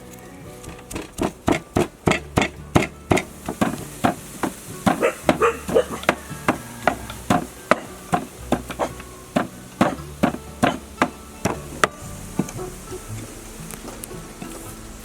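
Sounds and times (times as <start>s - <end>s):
pestle pounding in mortar: 0.6s - 12.8s.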